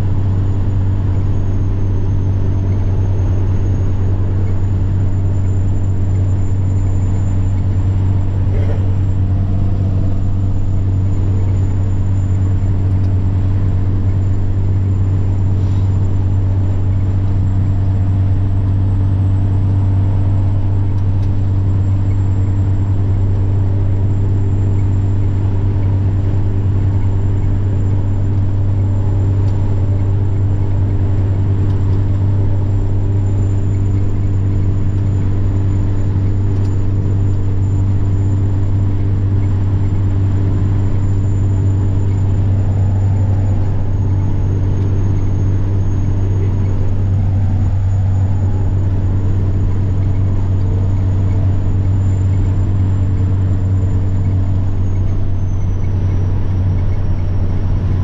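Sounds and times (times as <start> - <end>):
diesel truck engine droning: 0.0 - 58.0
turbocharger whine: 0.0 - 58.0.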